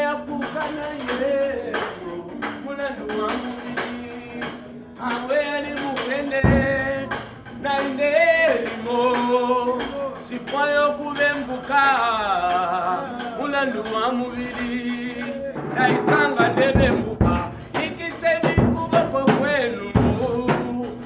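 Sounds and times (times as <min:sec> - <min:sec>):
backing singers: 0:00.0 - 0:21.0
drum kit steady beat: 0:00.0 - 0:21.0
men singing gospel lead: 0:00.0 - 0:21.0.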